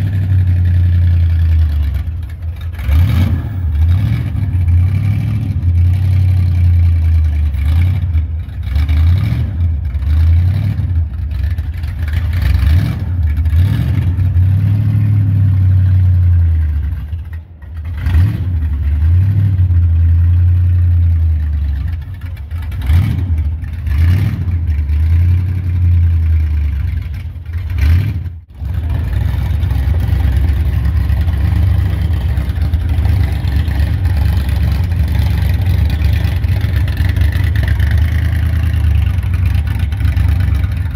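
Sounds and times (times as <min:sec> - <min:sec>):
truck engine revving and idling: 0:00.0 - 0:40.9.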